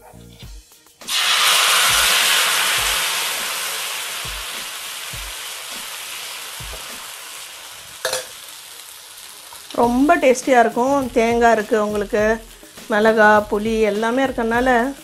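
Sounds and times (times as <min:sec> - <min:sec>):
batter sizzling on a hot griddle: 0:01.0 - 0:15.0.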